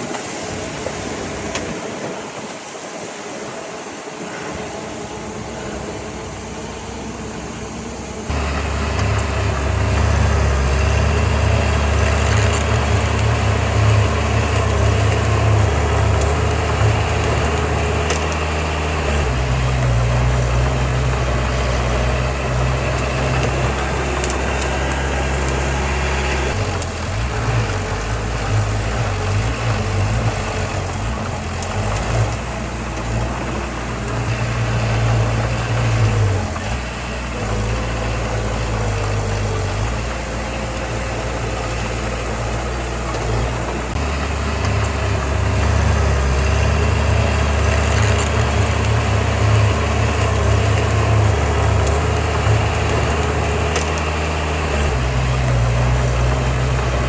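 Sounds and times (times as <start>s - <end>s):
heavy diesel engines throbbing: 0.0s - 57.0s.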